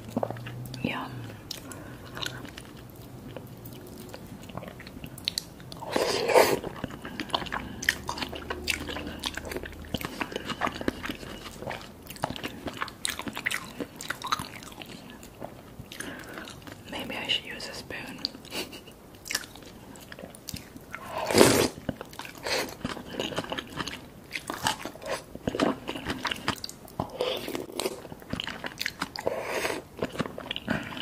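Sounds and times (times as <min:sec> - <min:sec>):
wet chewing: 0:00.0 - 0:16.9, 0:19.2 - 0:31.0.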